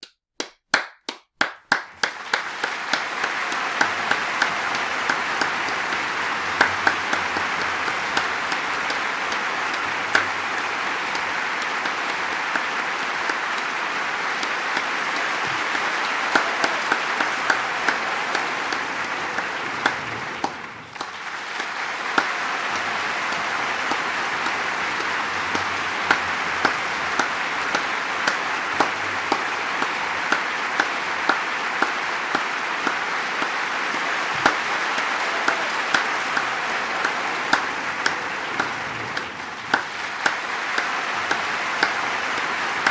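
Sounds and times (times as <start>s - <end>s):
large crowd applauding and cheering: 0.4s - 42.9s.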